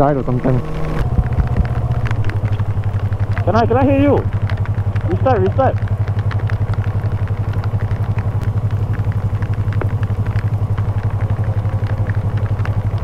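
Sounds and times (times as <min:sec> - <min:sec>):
motorcycle engine pulsing rumble: 0:00.0 - 0:13.0
light ticks: 0:01.0 - 0:13.0.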